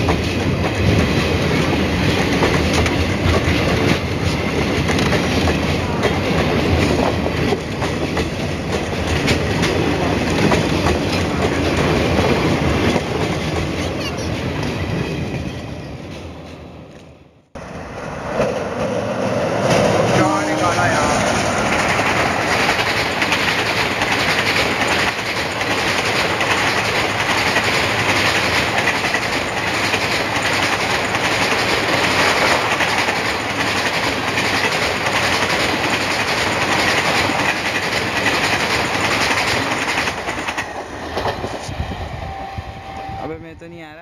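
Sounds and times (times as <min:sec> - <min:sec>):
train rushing past: 0:00.0 - 0:17.0, 0:17.6 - 0:44.0.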